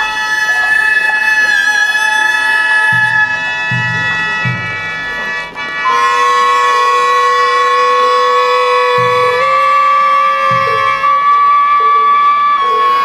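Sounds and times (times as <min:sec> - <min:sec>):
high flute notes: 0:00.0 - 0:13.0
low drum strokes: 0:00.0 - 0:13.0.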